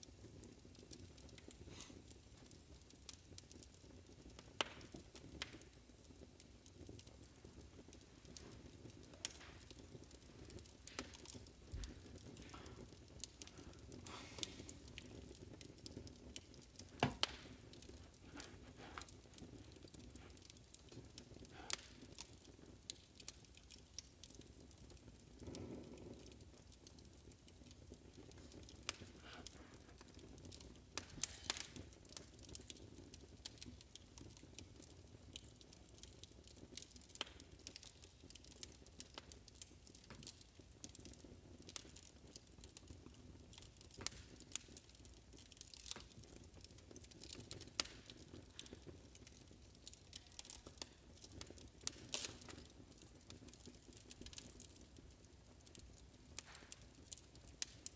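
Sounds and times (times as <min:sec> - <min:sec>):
low steady hiss: 0:00.0 - 0:57.9
wood fire crackling: 0:00.0 - 0:57.9.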